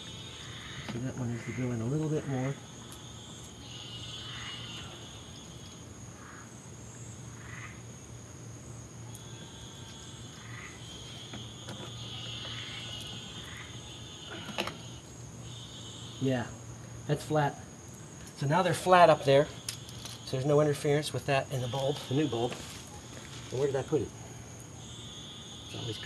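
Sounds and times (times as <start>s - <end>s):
frogs calling softly: 0.0s - 26.0s
night insects trilling: 0.0s - 26.0s
steady low hum: 0.0s - 26.0s.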